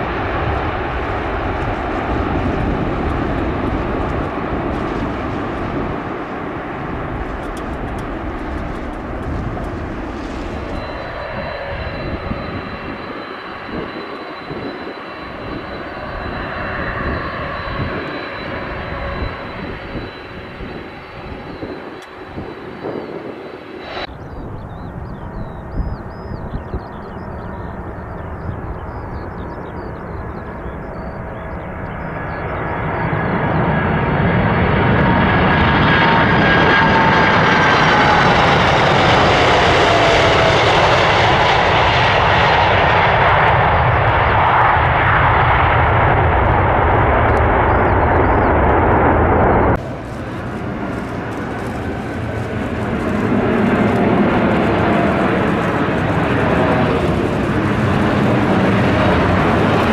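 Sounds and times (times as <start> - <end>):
jet airliner passing: 0.0 - 59.9
jet engine whine: 0.0 - 59.9
quieter aircraft engine noise: 0.0 - 59.9.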